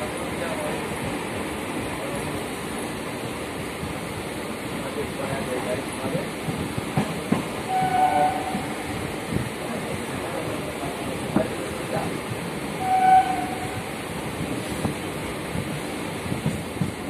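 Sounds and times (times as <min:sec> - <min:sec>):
train rumble and air rush: 0:00.0 - 0:17.0.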